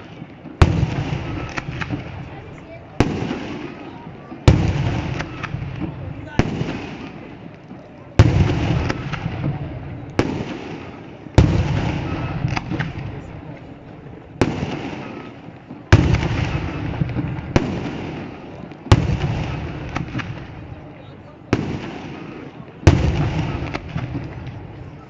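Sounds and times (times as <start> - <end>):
fireworks bangs: 0.0 - 25.0
fireworks crackle: 0.0 - 25.0.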